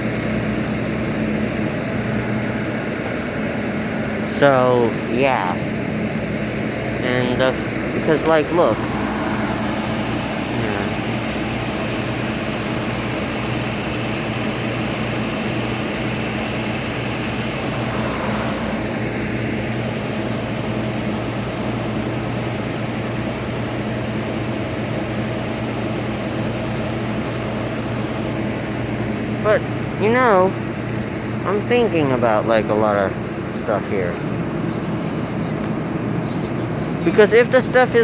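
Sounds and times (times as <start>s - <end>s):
bus engine idling: 0.0s - 38.0s.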